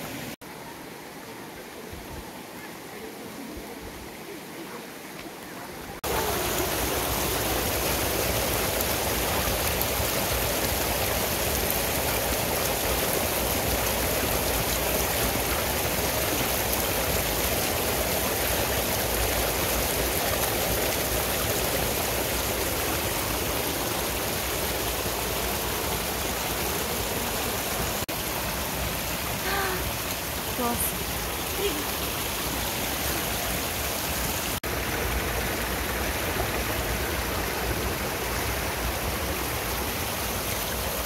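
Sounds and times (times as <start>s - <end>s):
stream water rushing: 0.0s - 41.0s.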